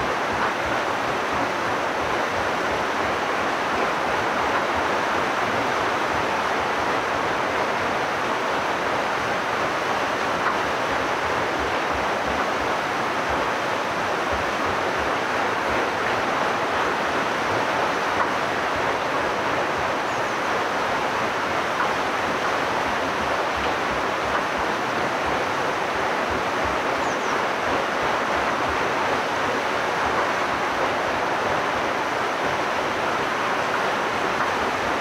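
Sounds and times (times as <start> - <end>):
water rushing at mill wheel: 0.0 - 35.0.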